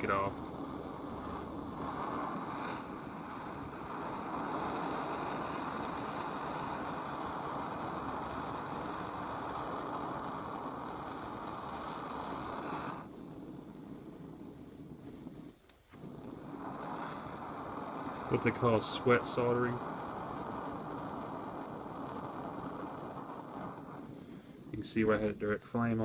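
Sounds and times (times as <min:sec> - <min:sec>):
torch flame hissing: 0:00.0 - 0:26.0.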